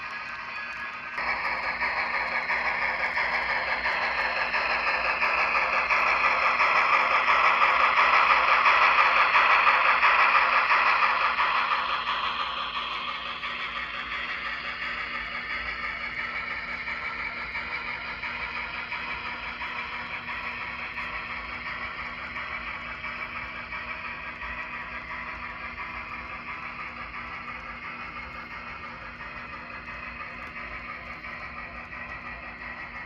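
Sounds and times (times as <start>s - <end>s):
model train rattling on track: 0.0s - 33.0s.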